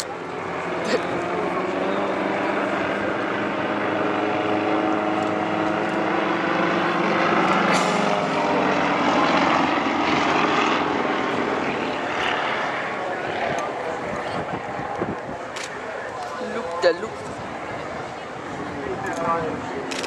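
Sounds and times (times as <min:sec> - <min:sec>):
propeller planes droning overhead: 0:00.0 - 0:20.0.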